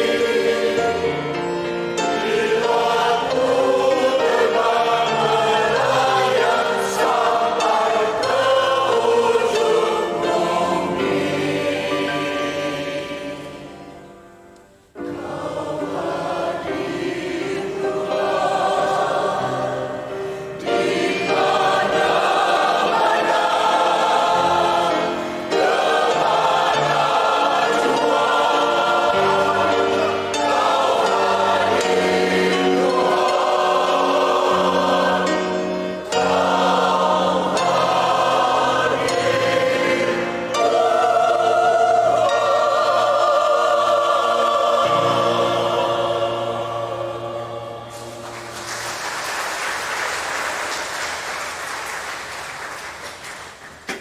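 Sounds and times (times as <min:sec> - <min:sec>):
mixed choir singing: 0:00.0 - 0:14.3, 0:15.0 - 0:51.6.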